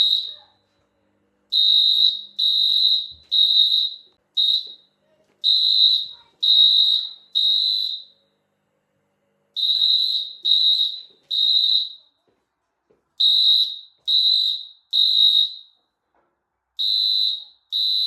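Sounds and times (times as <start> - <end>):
fire alarm beeps: 0.0 - 0.8, 1.5 - 8.4, 9.5 - 12.3, 13.2 - 16.0, 16.8 - 18.0.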